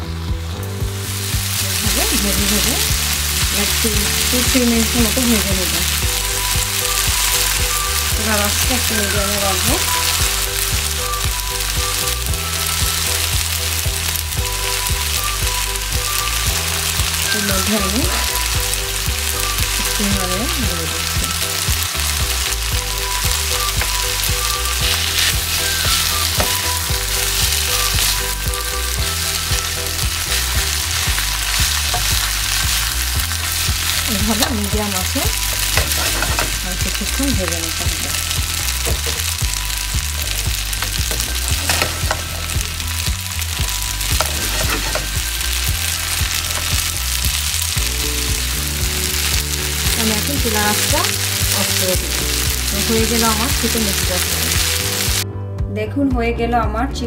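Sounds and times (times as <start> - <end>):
stir-fry sizzling in a wok: 0.0 - 55.2
spatula and tongs tossing food: 1.1 - 55.2.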